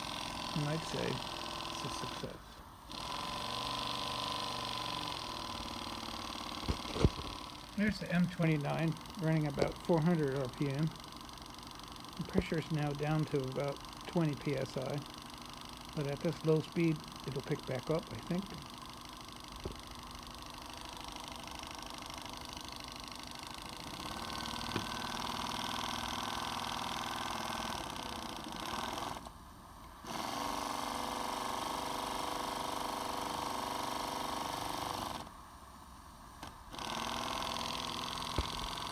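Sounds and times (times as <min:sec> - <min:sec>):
model steam engine running: 0:00.0 - 0:29.2, 0:30.1 - 0:35.2, 0:36.8 - 0:38.9.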